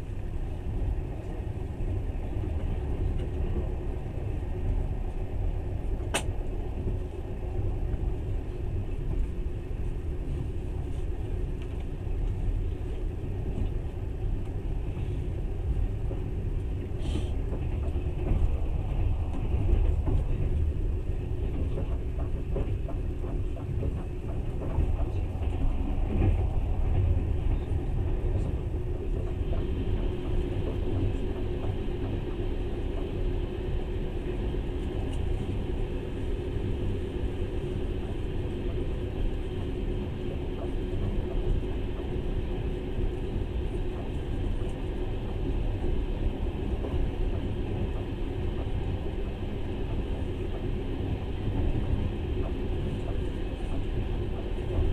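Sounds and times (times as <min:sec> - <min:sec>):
moving train rumble: 0:00.0 - 0:54.9.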